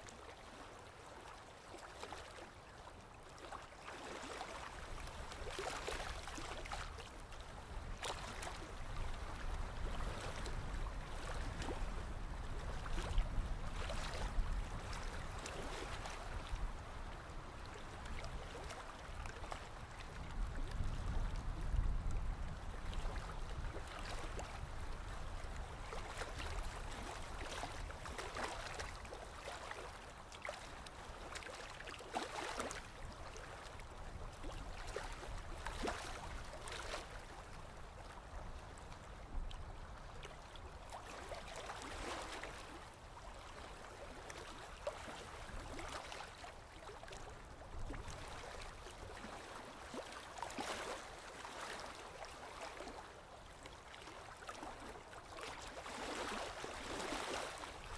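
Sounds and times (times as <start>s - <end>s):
small water splashes: 0.0s - 57.9s
sea water lapping: 0.1s - 57.9s.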